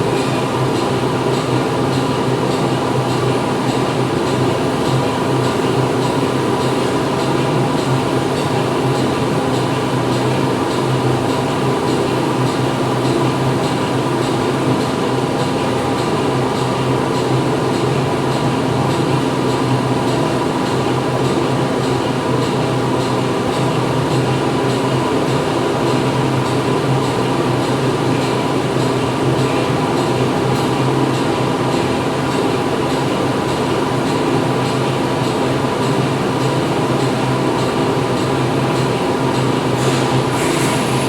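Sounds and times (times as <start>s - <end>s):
factory machinery humming: 0.0s - 41.0s.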